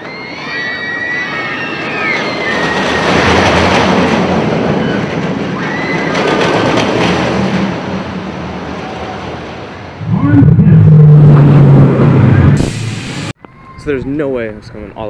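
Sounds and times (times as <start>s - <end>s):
train rumbling on rails: 1.0s - 13.3s.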